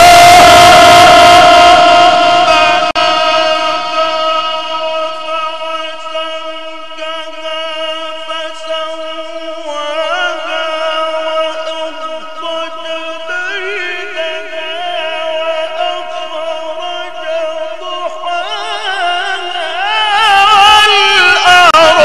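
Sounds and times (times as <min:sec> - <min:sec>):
man chanting recitation: 0:00.0 - 0:22.0.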